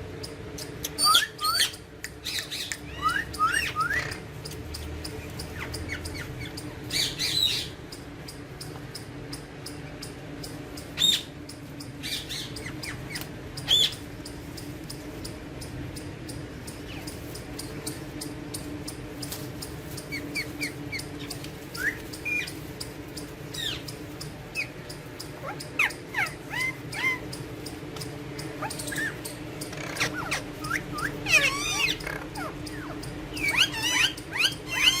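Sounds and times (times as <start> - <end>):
steady low hum: 0.0 - 35.0
parakeets chirping and calling: 0.1 - 35.0.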